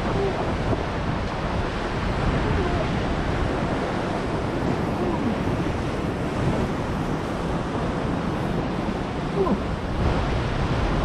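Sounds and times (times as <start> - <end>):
ocean waves on rocks: 0.0 - 11.0
wind buffeting microphone: 0.0 - 11.0.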